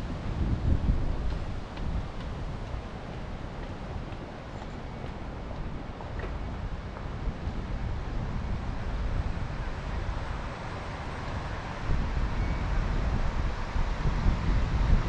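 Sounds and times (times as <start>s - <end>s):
street traffic rushing: 0.0s - 15.0s
wind buffeting microphone: 0.0s - 15.0s.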